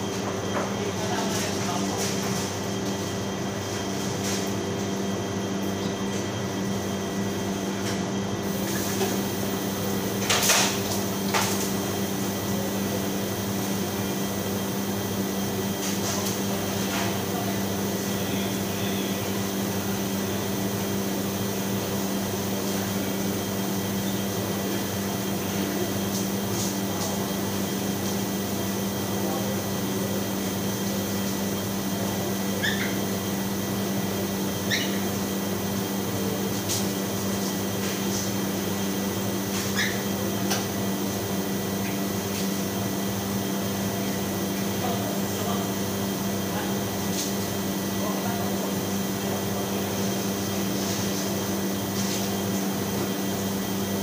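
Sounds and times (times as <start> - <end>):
kitchen machinery hum: 0.0 - 54.0.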